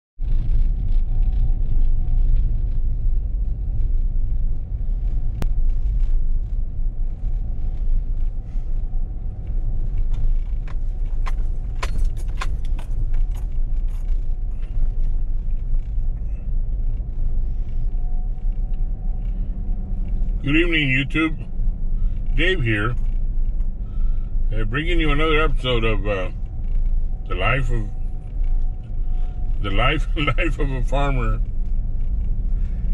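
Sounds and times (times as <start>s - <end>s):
vehicle engine and road rumble: 0.2s - 32.9s.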